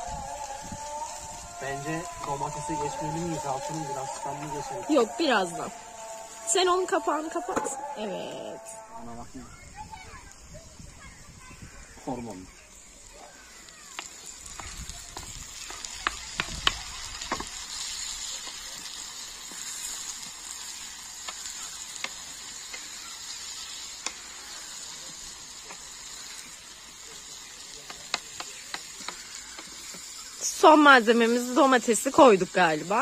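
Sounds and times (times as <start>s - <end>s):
vegetables sizzling in a pan: 0.0s - 33.0s.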